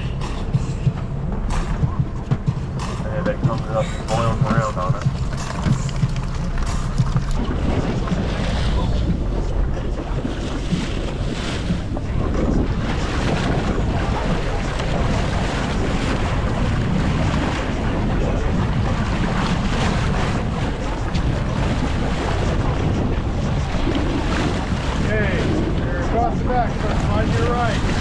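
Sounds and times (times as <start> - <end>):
steady low rumble: 0.0 - 28.0
water washing along boat hull: 0.0 - 28.0
wind buffeting microphone: 0.0 - 28.0.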